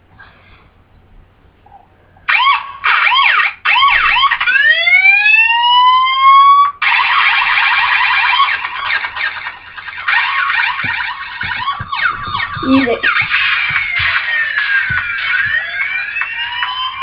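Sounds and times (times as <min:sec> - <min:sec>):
electronic police siren: 0:02.2 - 0:17.0.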